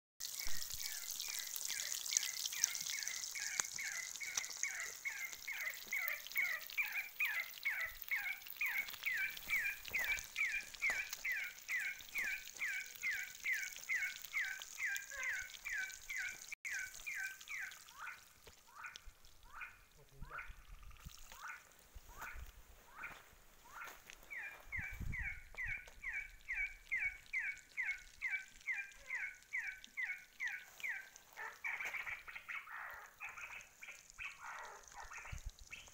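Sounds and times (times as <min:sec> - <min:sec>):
fish frying in oil: 0:00.2 - 0:19.6, 0:25.4 - 0:35.9.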